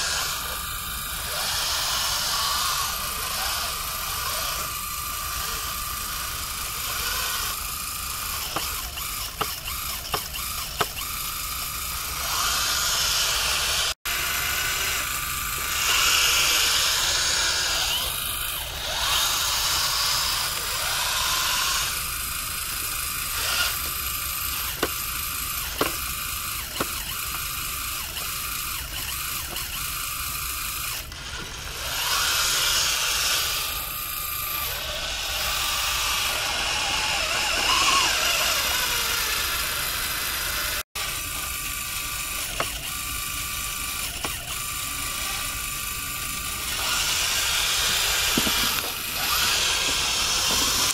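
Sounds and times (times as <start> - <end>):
model loader motors whining: 0.0 - 50.9.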